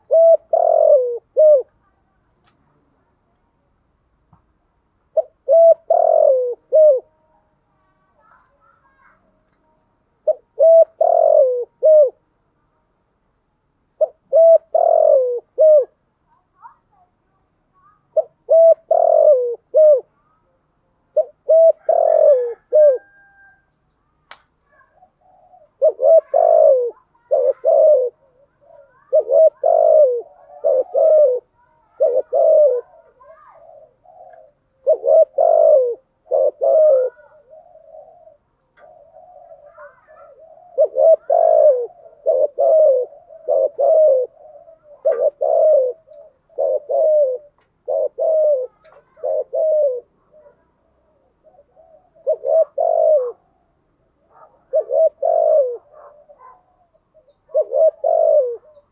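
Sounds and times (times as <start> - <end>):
dove cooing: 0.0 - 2.0, 5.1 - 7.2, 10.2 - 12.3, 14.0 - 16.0, 17.9 - 20.5, 21.1 - 23.7, 24.6 - 58.9.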